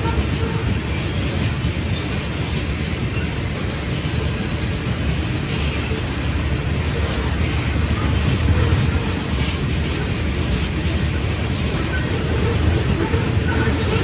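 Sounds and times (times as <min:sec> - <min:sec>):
railroad cars rolling on track: 0:00.0 - 0:14.0.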